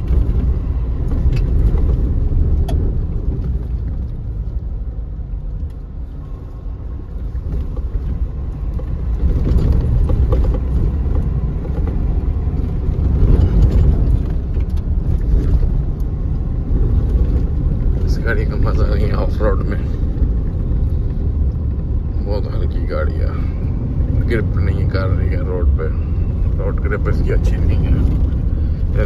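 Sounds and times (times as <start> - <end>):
engine and tyres rumbling: 0.0 - 29.0.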